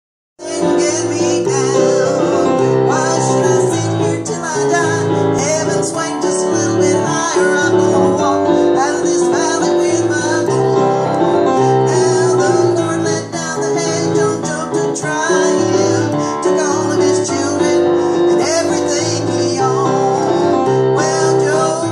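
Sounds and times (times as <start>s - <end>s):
digital piano chords: 0.4s - 21.9s.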